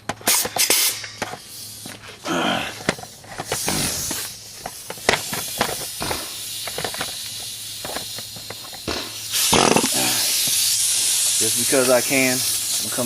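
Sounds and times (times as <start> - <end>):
short hiss of air: 0.2 - 2.1, 3.0 - 13.0.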